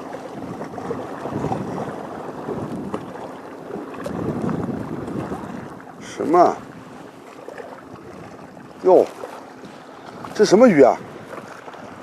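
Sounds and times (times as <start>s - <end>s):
small waves washing on shore: 0.0s - 12.0s
wind on microphone: 0.0s - 12.0s.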